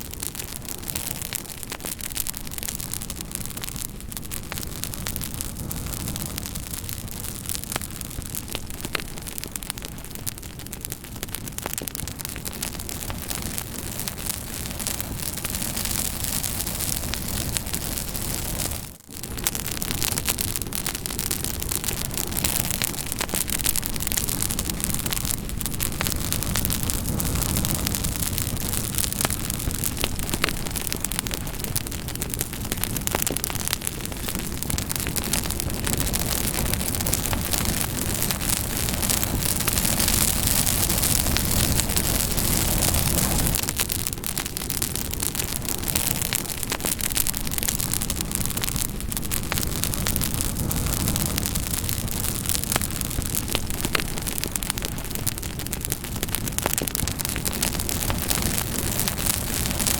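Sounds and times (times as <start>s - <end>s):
campfire crackling: 0.0s - 59.9s
hiss and rumble of flames: 0.0s - 59.9s.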